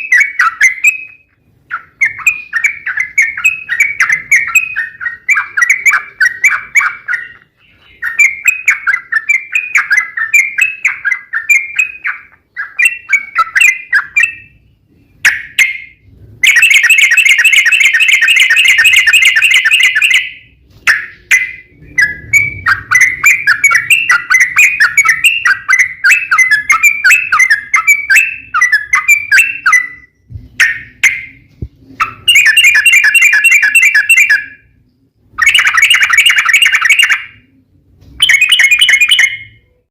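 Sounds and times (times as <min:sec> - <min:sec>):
bird rapid trill: 0:00.0 - 0:34.8, 0:35.4 - 0:37.5, 0:38.2 - 0:39.6
bulbul chattering song: 0:00.0 - 0:39.8.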